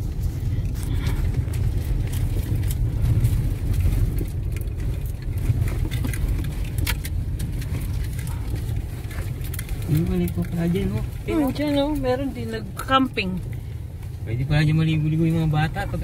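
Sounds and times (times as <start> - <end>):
tyres and engine rumbling: 0.0 - 16.0
small clicks and rattles: 0.6 - 14.2.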